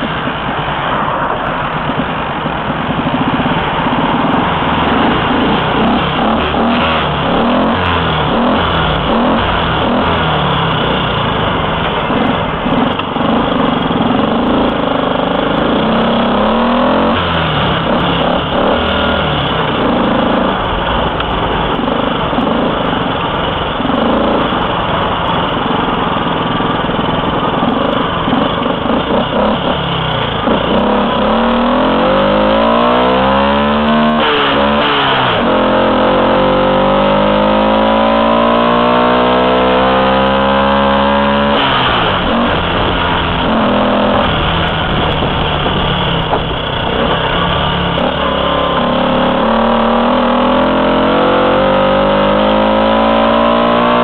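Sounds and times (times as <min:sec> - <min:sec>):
small motorcycle engine running: 0:00.0 - 0:54.0.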